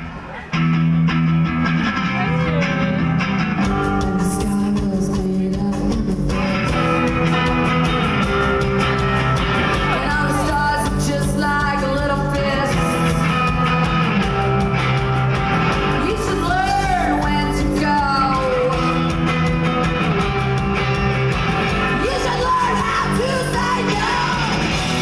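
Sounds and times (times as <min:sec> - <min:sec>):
distorted electric guitar: 0:00.0 - 0:25.0
drums: 0:00.0 - 0:25.0
electric bass: 0:00.0 - 0:25.0.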